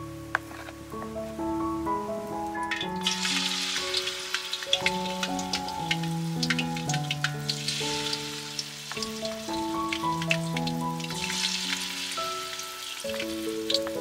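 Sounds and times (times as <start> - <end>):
background music of held notes: 0.0 - 14.0
fish deep-frying in oil: 2.0 - 14.0.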